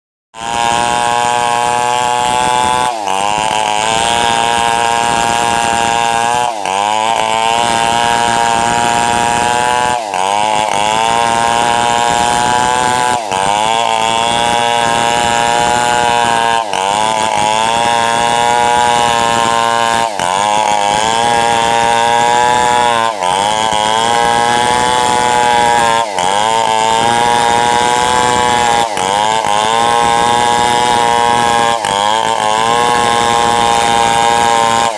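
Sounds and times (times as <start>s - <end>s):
chainsaw ripping wood: 0.4s - 34.9s.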